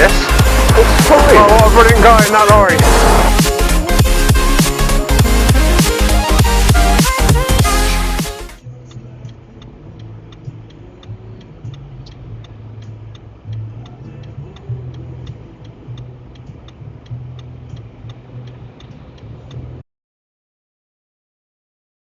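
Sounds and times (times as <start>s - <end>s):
engine and road hum: 0.0s - 19.8s
turn signal ticking: 0.0s - 19.8s.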